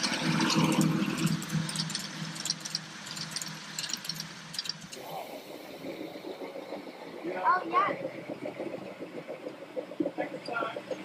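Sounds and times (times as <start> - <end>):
miniature train hum: 0.0 - 11.0
wheels clicking over rails: 0.0 - 11.0.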